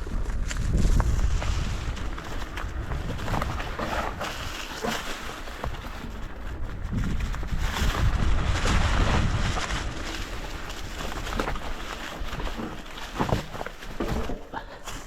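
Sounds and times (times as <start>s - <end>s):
wind rumbling on microphone: 0.0s - 14.4s
bike tyres on dirt: 0.0s - 15.0s.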